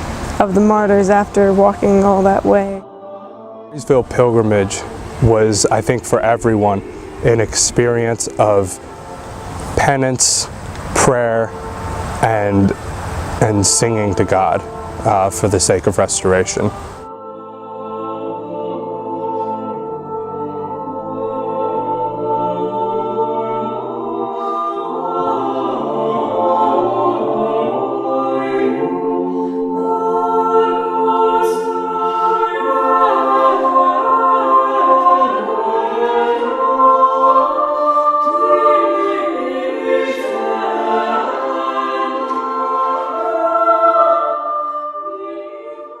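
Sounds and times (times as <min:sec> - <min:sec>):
unaccompanied choir singing: 0:00.0 - 0:46.0.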